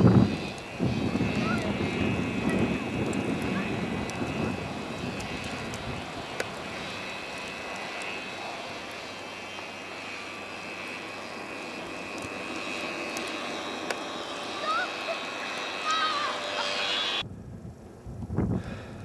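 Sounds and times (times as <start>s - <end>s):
distant quad bike engine: 0.0s - 17.2s.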